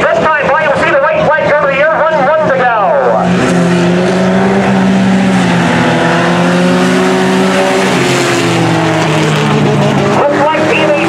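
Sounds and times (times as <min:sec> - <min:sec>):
race truck engines droning: 0:00.0 - 0:11.0.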